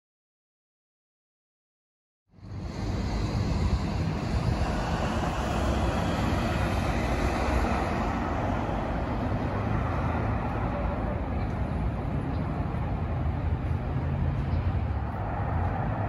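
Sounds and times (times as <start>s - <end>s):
road traffic rumble: 2.3s - 16.0s.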